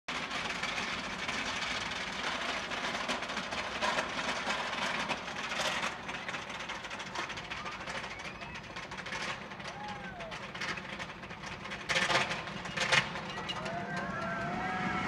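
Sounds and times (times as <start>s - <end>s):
dense clatter of clicks: 0.1s - 14.4s
roller coaster rumbling on track: 0.1s - 15.0s.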